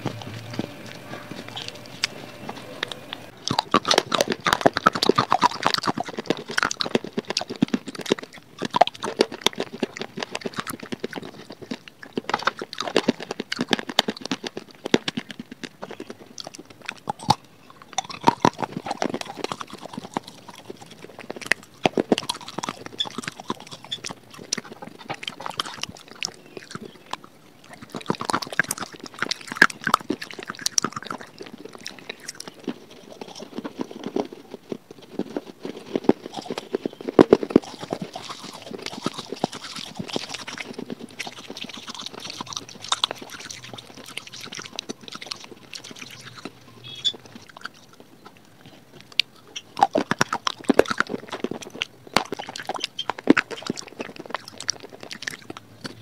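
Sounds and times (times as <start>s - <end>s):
crunching and chewing clay: 0.0s - 56.0s.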